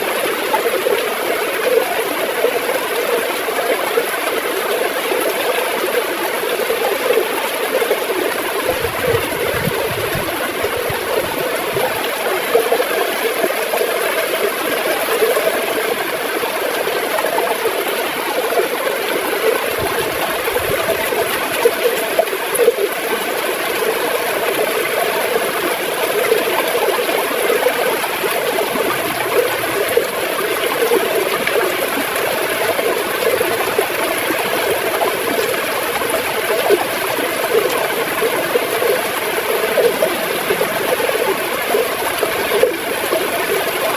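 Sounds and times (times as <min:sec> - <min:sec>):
river water gurgling over stones: 0:00.0 - 0:43.9.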